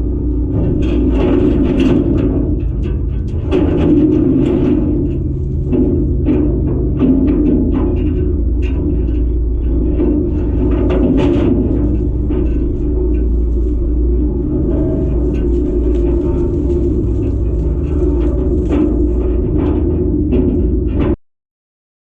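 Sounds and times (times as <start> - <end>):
diesel machinery running: 0.0 - 21.2
metal clanks and knocks: 0.0 - 21.2.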